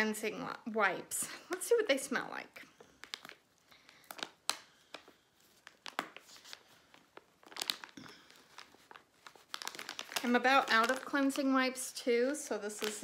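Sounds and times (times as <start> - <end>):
plastic packet crinkling: 1.5 - 13.0.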